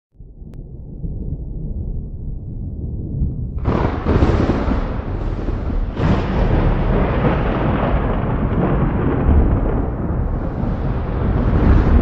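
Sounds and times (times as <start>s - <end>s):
thunder rumbling and crashing: 0.2s - 12.0s.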